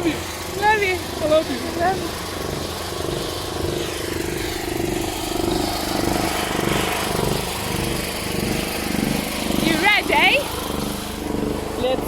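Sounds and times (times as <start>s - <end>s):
motor running with fast pulse: 0.0s - 12.0s.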